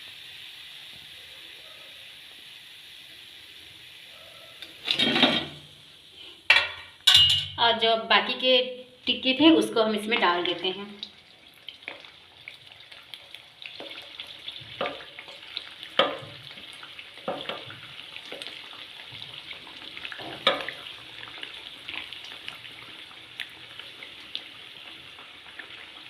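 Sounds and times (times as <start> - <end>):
frying in hot oil sizzle: 0.0 - 26.0.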